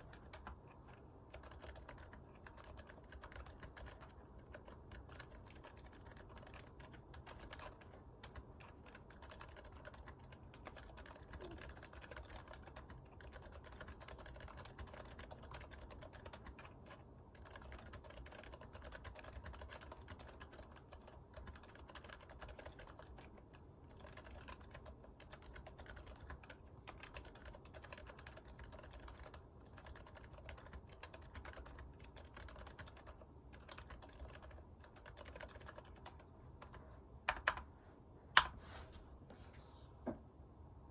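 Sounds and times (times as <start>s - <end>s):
quiet keyboard typing: 0.0s - 37.7s.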